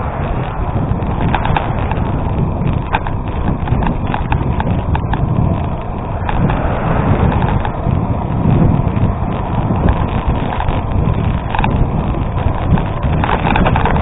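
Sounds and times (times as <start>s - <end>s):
bicycle tyre and drivetrain noise: 0.0s - 14.0s
wind rushing over microphone: 0.0s - 14.0s
light rattling clicks: 0.3s - 14.0s.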